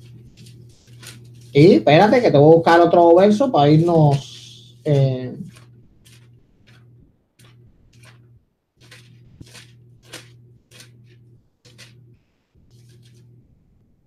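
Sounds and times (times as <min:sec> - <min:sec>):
paper rustling: 0:00.0 - 0:02.3, 0:03.2 - 0:12.1, 0:12.7 - 0:13.4
low electrical hum: 0:00.0 - 0:14.0.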